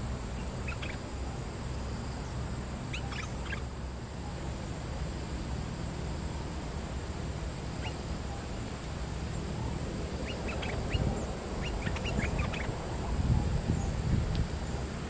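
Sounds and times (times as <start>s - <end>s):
bulbuls chirping: 0.0s - 15.0s.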